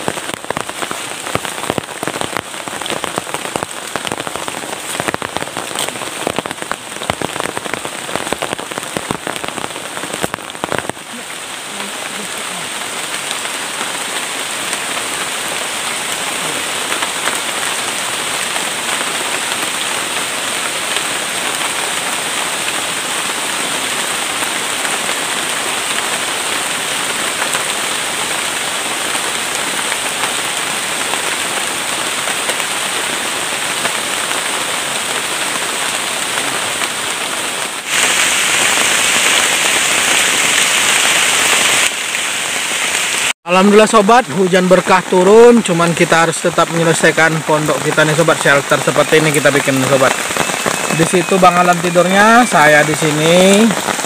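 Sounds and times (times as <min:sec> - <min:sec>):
heavy rain: 0:00.0 - 0:54.0
raindrops hitting: 0:00.0 - 0:54.0.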